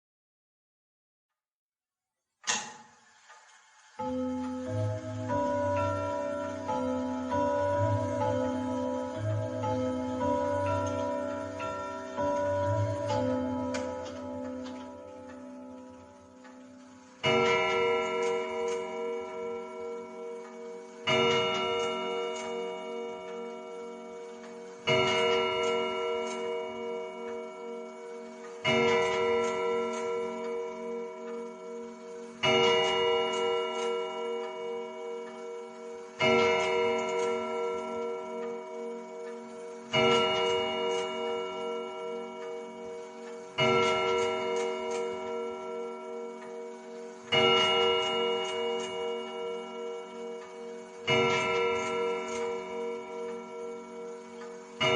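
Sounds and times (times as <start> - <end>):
clock striking: 2.4 - 54.9
clock ticking: 2.5 - 54.9.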